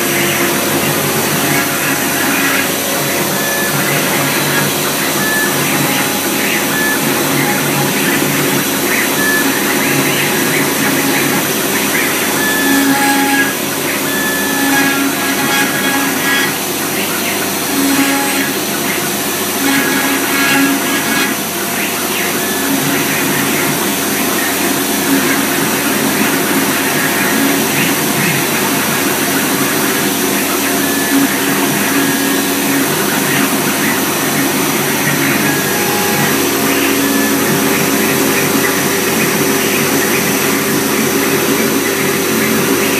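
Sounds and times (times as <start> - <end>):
router spindle cutting wood: 0.0 - 42.9
short pitched whines: 0.0 - 42.9.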